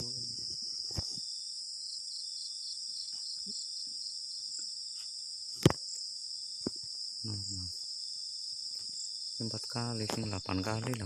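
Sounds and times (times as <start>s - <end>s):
crickets trilling: 0.0s - 11.0s
insect chirping in quick pulses: 0.0s - 11.0s.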